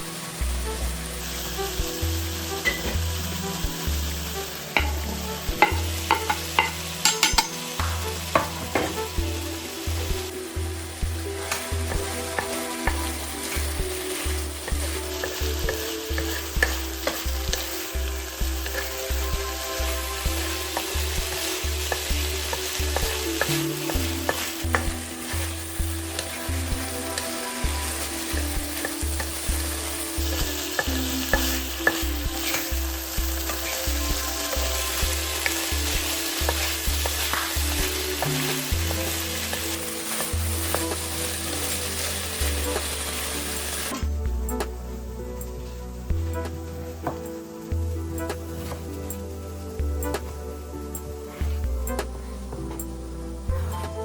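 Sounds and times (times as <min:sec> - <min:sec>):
food sizzling in frying pan: 0:00.0 - 0:52.1
background music with beat: 0:00.0 - 0:54.0.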